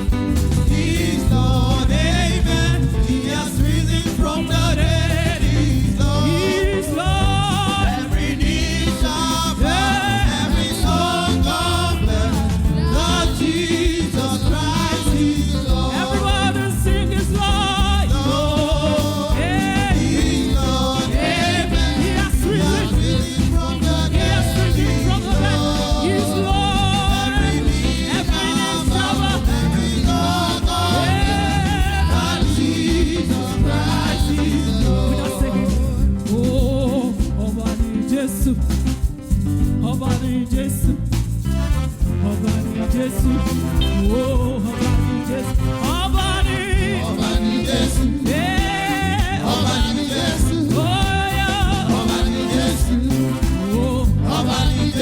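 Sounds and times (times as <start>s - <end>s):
band playing steady beat: 0.0s - 55.0s
singers: 0.0s - 55.0s
strong bass line: 0.0s - 55.0s.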